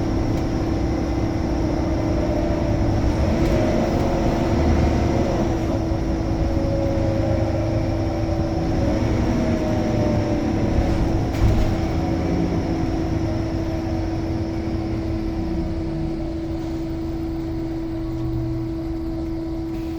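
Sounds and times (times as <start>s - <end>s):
bus engine rumbling: 0.0s - 19.9s.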